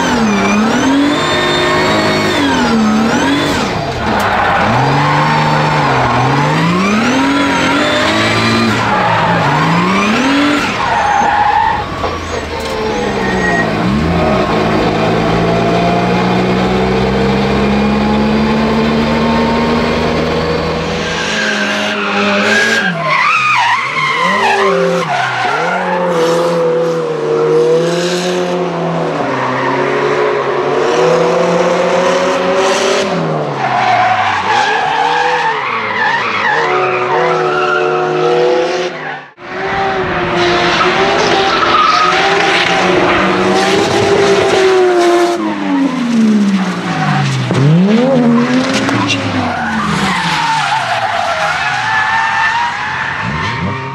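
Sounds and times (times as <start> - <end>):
drift car engines revving: 0.0 - 53.9.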